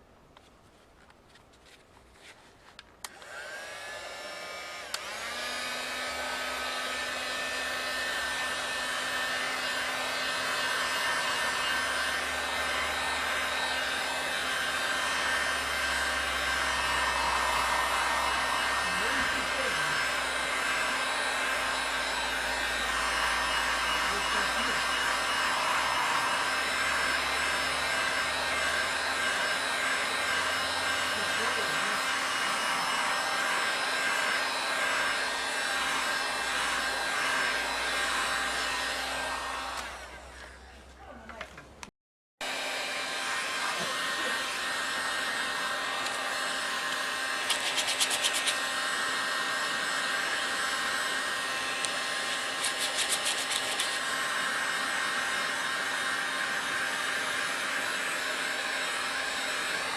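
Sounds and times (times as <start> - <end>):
hot air gun fan whine: 3.0 - 40.6, 42.4 - 59.9.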